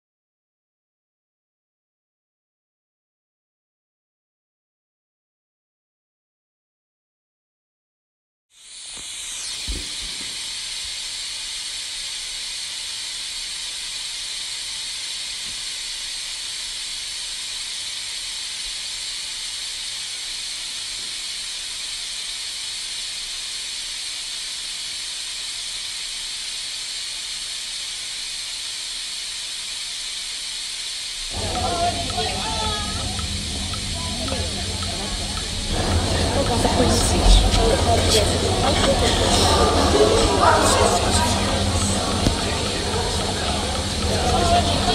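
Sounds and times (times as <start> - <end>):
white noise hiss: 8.6 - 44.9.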